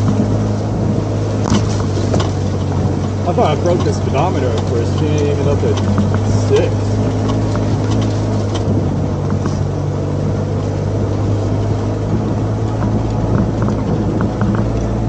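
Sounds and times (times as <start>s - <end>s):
body clicks and rattles: 0.0s - 15.0s
vehicle engine running at low speed: 0.0s - 15.0s.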